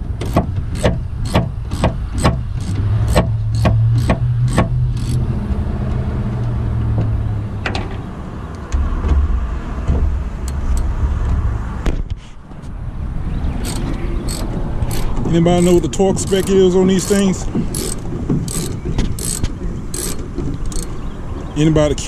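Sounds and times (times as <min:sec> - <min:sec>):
engine running low rumble: 0:00.0 - 0:22.0.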